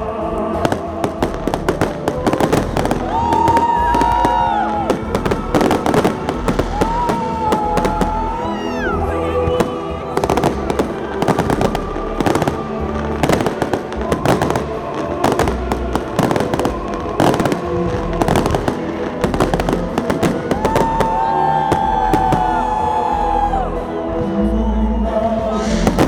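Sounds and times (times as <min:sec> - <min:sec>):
music playing: 0:00.0 - 0:26.0
fireworks bangs: 0:00.5 - 0:23.4, 0:25.8 - 0:26.0.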